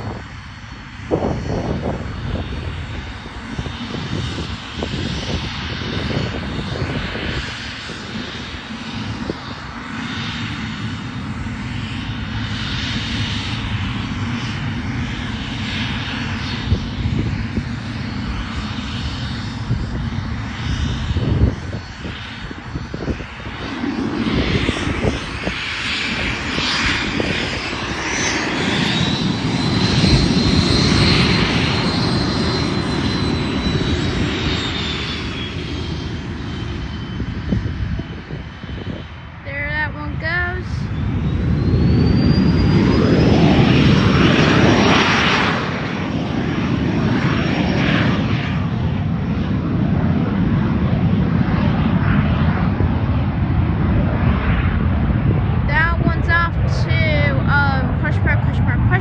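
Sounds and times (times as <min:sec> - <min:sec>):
high engine whine: 0:00.0 - 0:59.0
jet engines running: 0:00.0 - 0:59.0.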